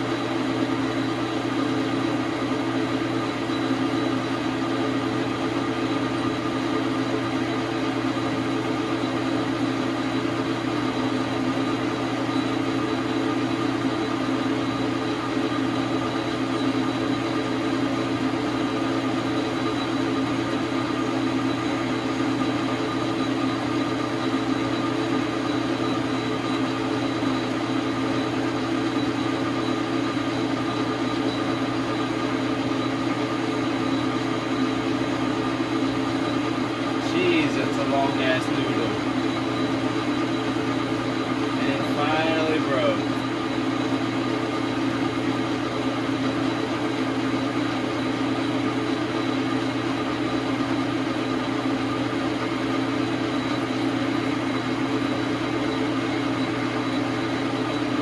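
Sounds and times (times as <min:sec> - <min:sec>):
metal lathe running: 0:00.0 - 0:58.0.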